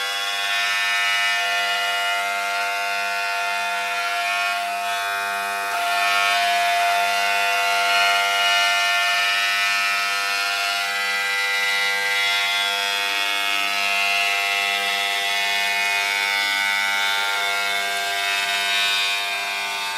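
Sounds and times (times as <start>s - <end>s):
grinding machine whine: 0.0s - 19.9s.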